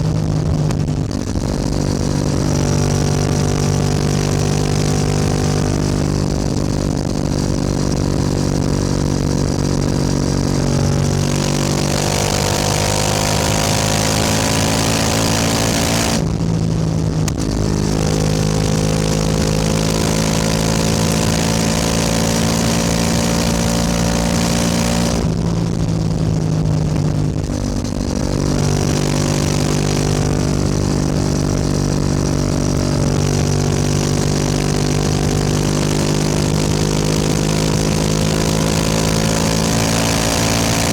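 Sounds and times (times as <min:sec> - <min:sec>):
motorcycle engine pulling: 0:00.0 - 0:40.9.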